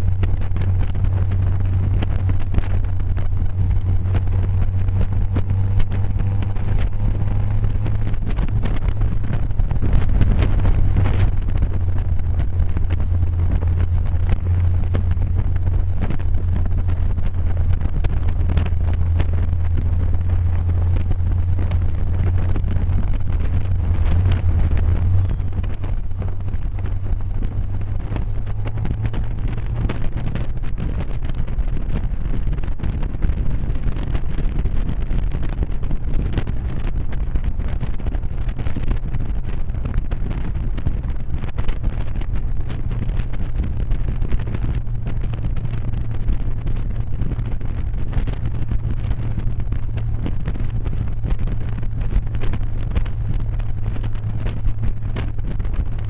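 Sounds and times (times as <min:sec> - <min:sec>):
car engine drone: 0:00.0 - 0:56.0
wind buffeting microphone: 0:00.0 - 0:56.0.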